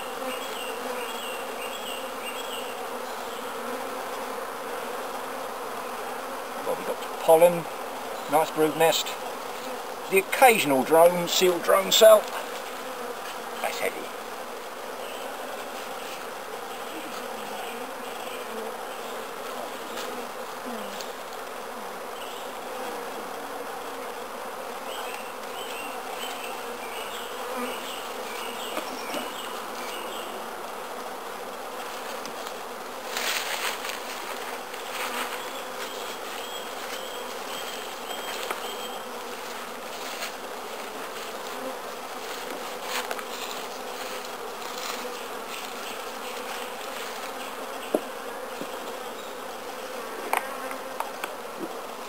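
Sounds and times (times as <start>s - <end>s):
honeybees buzzing: 0.0s - 52.0s.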